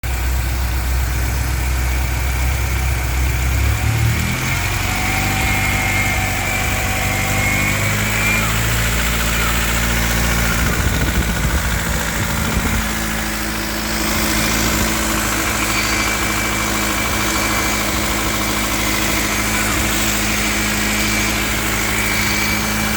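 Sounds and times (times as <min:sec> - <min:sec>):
car engine running at low revs: 0:00.0 - 0:22.9.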